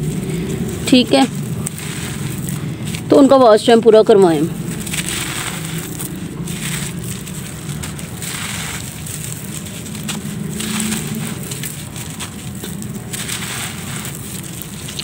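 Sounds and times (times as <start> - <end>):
hands crushing dry soil: 0.0 - 15.0.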